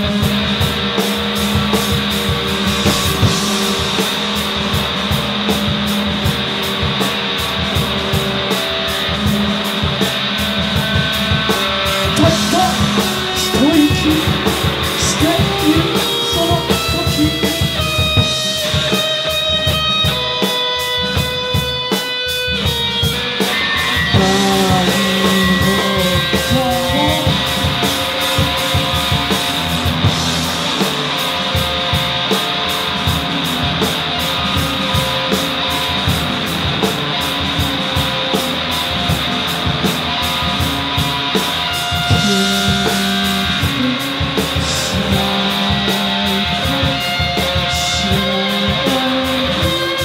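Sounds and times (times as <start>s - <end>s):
electric guitar bending tones: 0.0s - 50.0s
rapid dense drumming: 0.0s - 50.0s.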